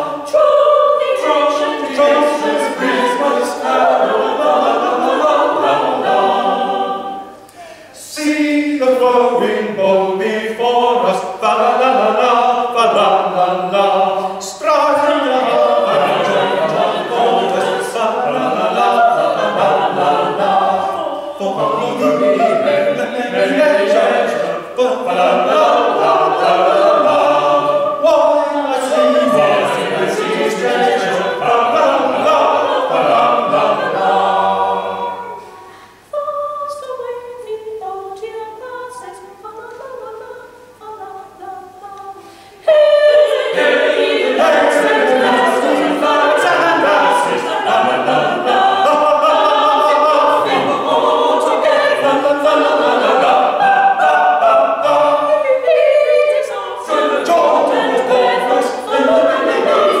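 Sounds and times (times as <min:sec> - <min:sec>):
choir singing a hymn: 0:00.0 - 1:00.0.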